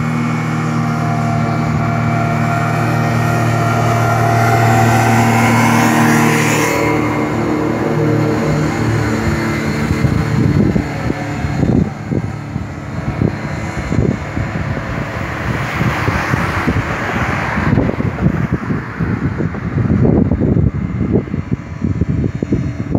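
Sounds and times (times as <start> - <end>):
car road noise: 0.0 - 22.9
wind buffeting microphone: 0.0 - 22.9.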